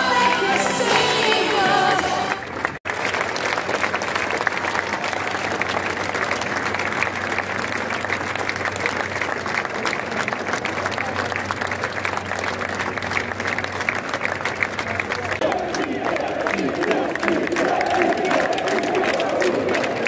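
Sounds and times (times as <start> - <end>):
crowd applauding: 0.0 - 20.0.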